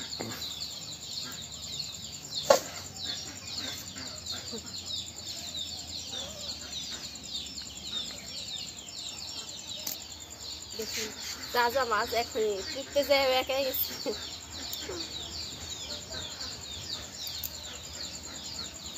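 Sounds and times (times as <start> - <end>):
birds chirping: 0.0 - 18.9.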